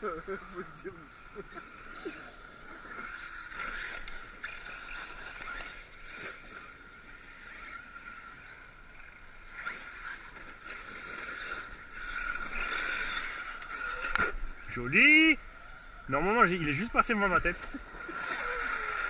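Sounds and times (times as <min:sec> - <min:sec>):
high electric motor whine: 0:00.0 - 0:19.0.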